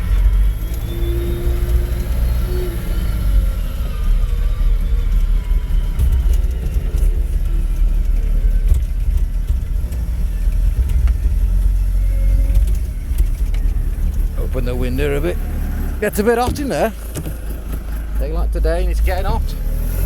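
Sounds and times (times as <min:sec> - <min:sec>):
diesel engine low rumble: 0:00.0 - 0:20.0.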